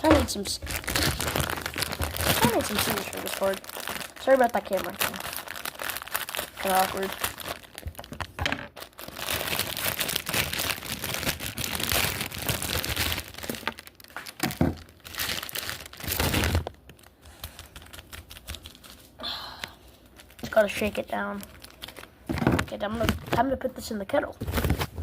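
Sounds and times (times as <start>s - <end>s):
plastic wrapper crinkling: 0.0s - 23.6s.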